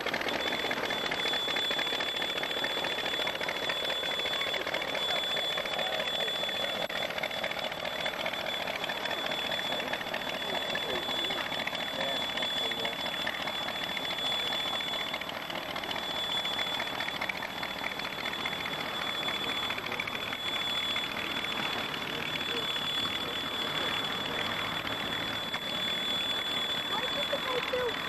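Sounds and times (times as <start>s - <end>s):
high-pitched whine: 0.0s - 28.0s.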